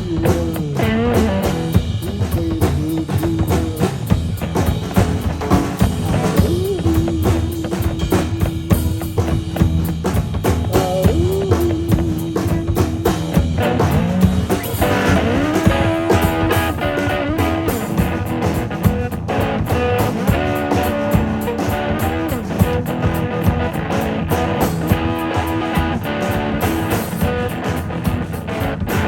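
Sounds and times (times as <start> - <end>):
guitar bending notes: 0.0 - 29.0
live band playing: 0.0 - 29.0.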